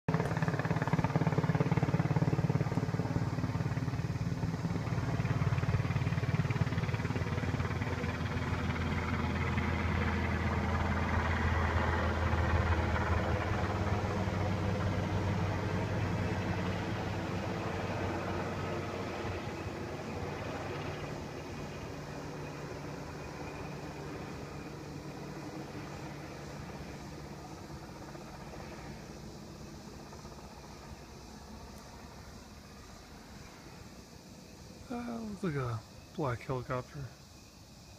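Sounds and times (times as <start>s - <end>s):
helicopter rotor beating: 0.1s - 37.3s.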